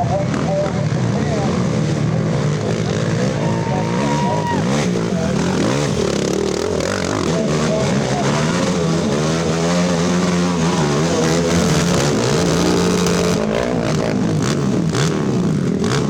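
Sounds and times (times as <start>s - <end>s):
atv engines revving: 0.0s - 16.0s.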